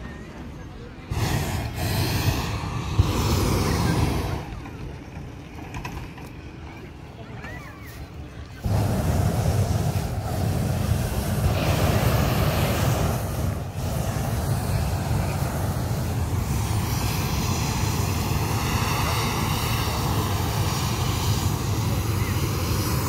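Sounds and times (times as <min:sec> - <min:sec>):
propane burner roaring: 0:01.0 - 0:06.4, 0:08.5 - 0:23.0.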